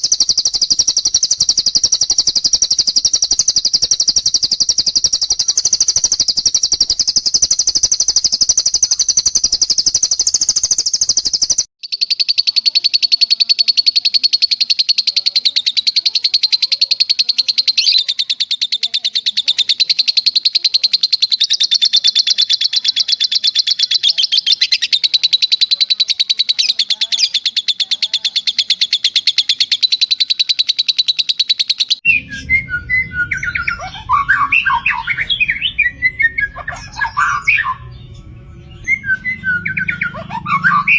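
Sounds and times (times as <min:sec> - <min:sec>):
lower varied bird song: 0:00.0 - 0:12.6, 0:20.5 - 0:40.9
high-pitched bird trills: 0:00.0 - 0:40.9.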